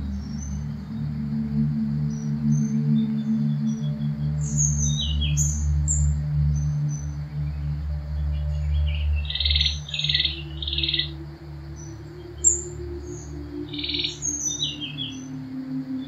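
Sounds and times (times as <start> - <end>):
bird chirps: 0.0 - 16.0
low steady drone: 0.0 - 16.0.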